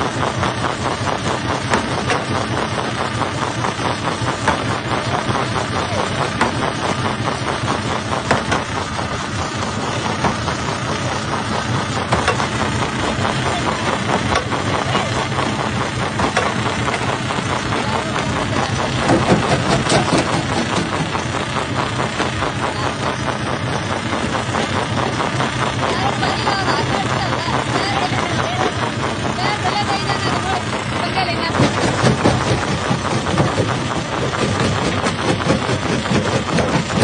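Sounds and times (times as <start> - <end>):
rock crusher engine hum: 0.0 - 37.0.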